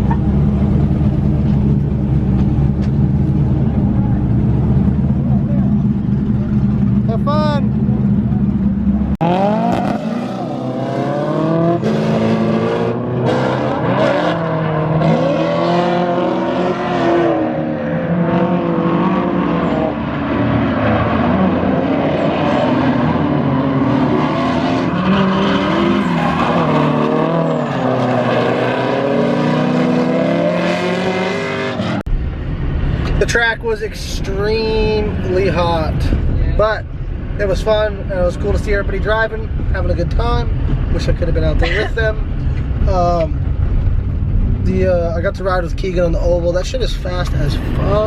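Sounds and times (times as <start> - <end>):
car engines revving hard: 0.0 - 32.1, 32.9 - 48.0.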